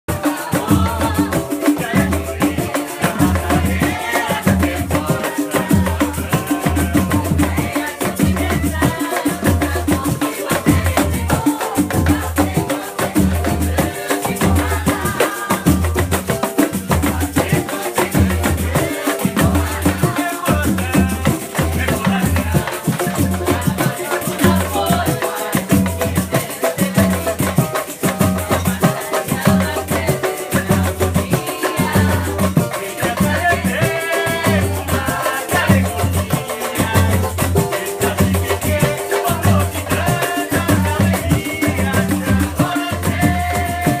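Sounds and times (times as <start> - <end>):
hand drums beating: 0.1 - 44.0.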